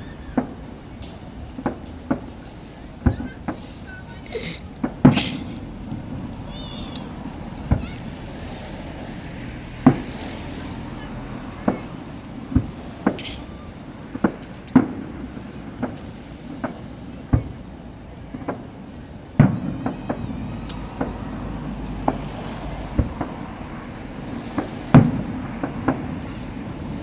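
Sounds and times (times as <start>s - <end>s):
fireworks banging: 0.0s - 27.0s.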